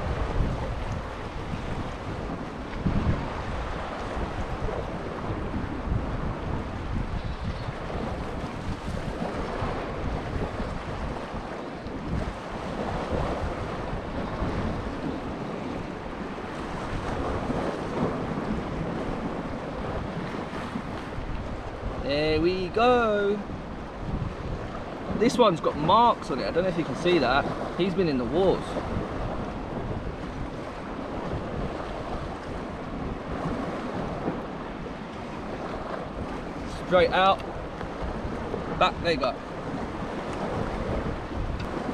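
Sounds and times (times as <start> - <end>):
waves washing against rocks: 0.0 - 41.9
wind buffeting microphone: 0.0 - 41.9.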